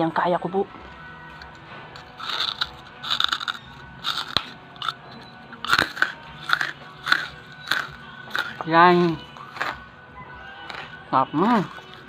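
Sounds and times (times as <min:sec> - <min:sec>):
crunchy chewing: 0:01.3 - 0:12.0.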